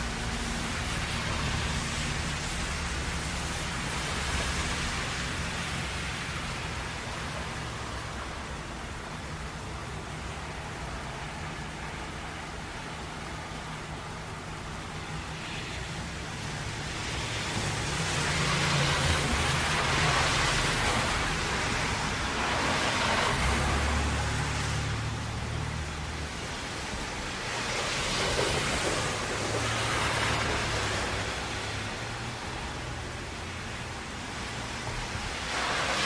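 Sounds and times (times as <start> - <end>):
rain hissing: 0.0 - 36.0
tyres on wet pavement: 0.0 - 36.0.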